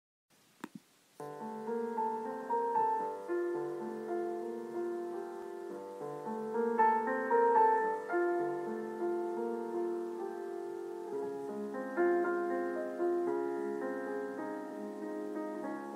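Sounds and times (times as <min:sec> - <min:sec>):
gentle piano music: 0:01.2 - 0:15.9.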